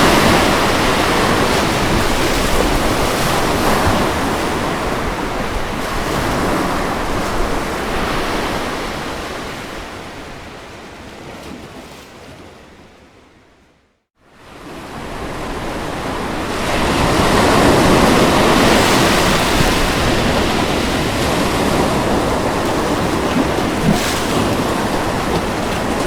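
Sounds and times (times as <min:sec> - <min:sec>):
ocean surf washing: 0:00.0 - 0:11.3, 0:14.4 - 0:26.0.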